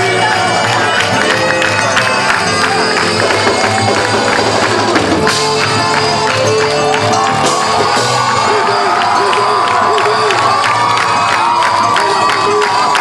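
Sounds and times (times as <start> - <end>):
band playing a song: 0.0 - 13.0
wavering melody line: 0.9 - 12.4.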